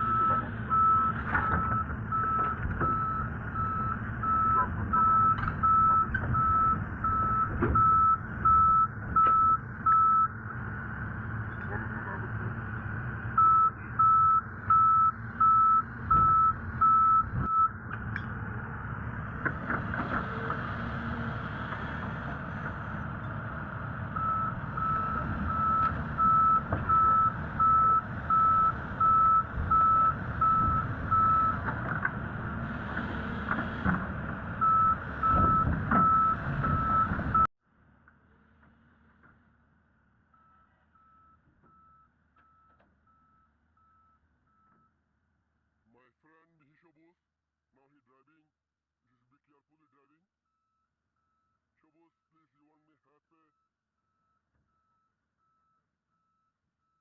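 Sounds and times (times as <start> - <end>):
diesel engine rumble: 0.0 - 46.9.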